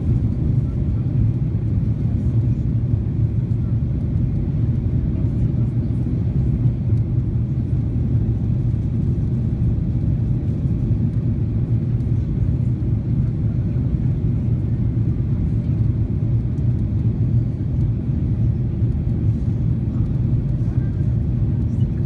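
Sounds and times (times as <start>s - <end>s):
jet engine rumble in cabin: 0.0s - 22.0s.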